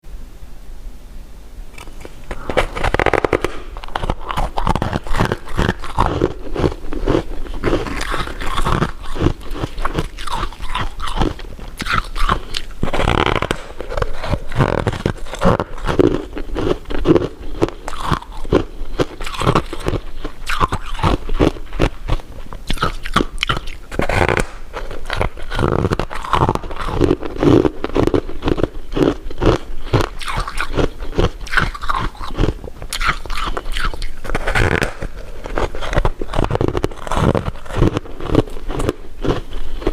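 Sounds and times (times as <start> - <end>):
crunchy bites of candy: 1.8 - 39.9
wet chewing: 1.8 - 39.9.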